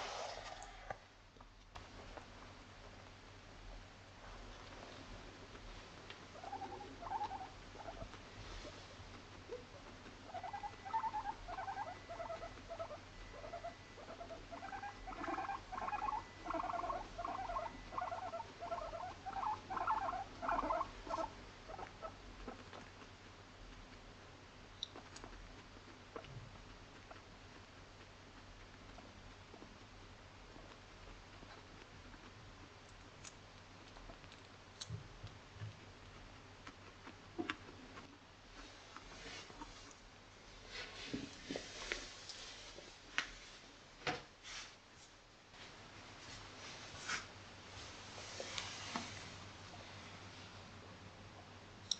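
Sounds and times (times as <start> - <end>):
guinea pig purring: 1.9 - 43.1, 45.8 - 51.9.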